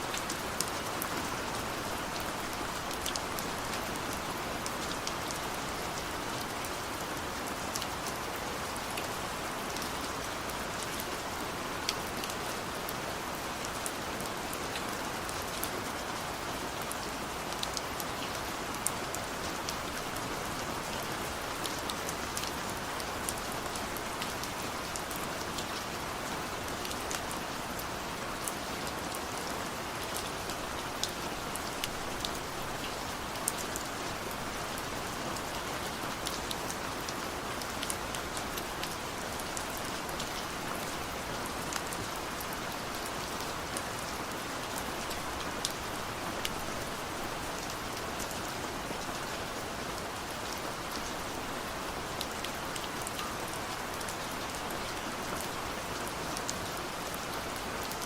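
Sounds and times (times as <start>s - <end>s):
raindrops ticking on a surface: 0.1s - 58.0s.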